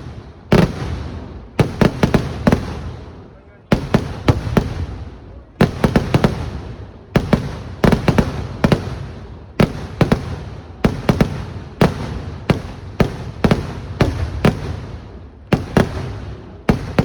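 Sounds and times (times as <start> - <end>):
fireworks bangs with rumbling echo: 0.0 - 17.0.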